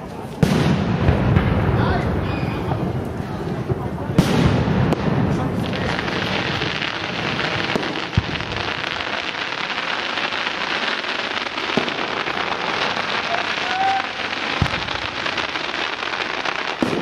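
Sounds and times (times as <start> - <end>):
fireworks crackling: 0.0 - 17.0
dull firework bangs: 0.4 - 17.0.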